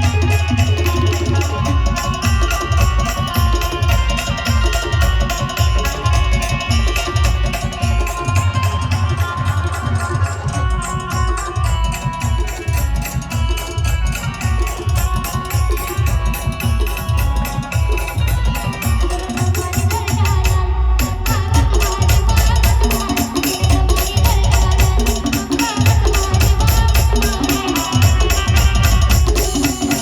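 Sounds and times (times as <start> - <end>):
fast dense drumming: 0.0 - 30.0.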